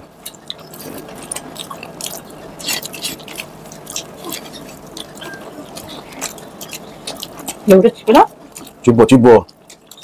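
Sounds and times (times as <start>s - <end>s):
wet chewing and mouth smacks: 0.0s - 10.0s.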